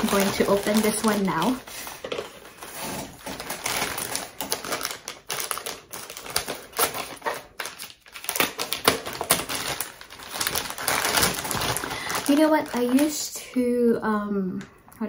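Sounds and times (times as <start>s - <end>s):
plastic packaging crinkling and tearing: 0.0s - 13.7s.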